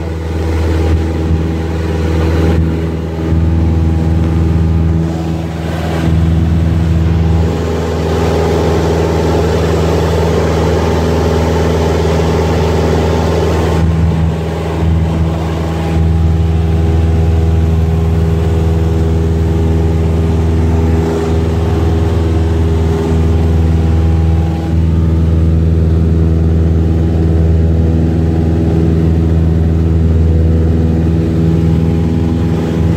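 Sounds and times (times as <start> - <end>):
rush of air noise: 0.0 - 26.7
airplane engine and propeller droning: 0.0 - 32.9.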